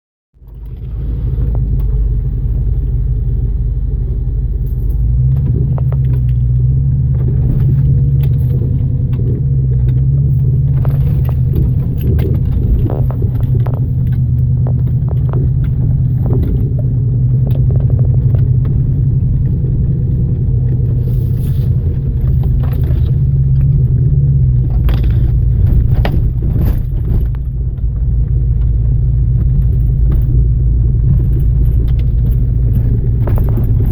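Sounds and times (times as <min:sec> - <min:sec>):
engine and tyres rumbling: 0:00.3 - 0:33.9
vehicle knocks and rattles: 0:04.7 - 0:33.9.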